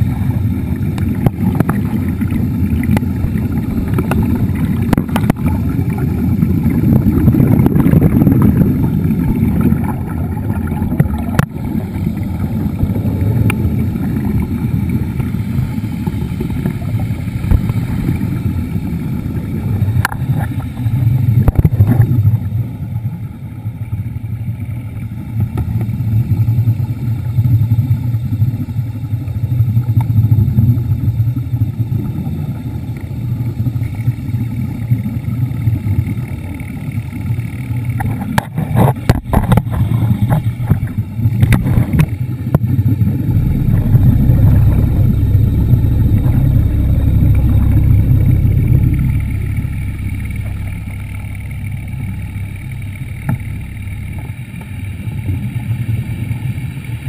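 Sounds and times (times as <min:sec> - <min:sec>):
underwater motor hum: 0:00.0 - 0:57.0.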